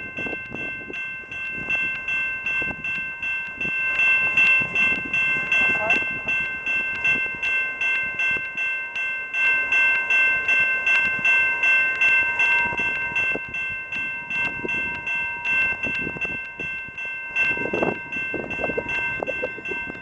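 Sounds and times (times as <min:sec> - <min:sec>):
crossing warning bell ringing: 0:00.0 - 0:20.0.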